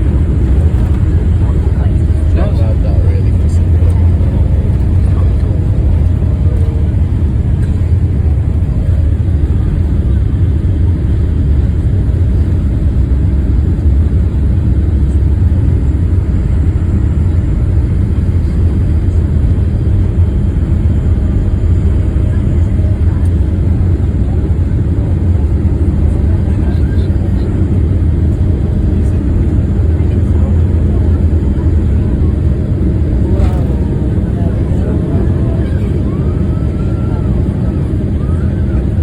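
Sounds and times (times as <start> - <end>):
airplane cabin engine roar: 0.0 - 39.0.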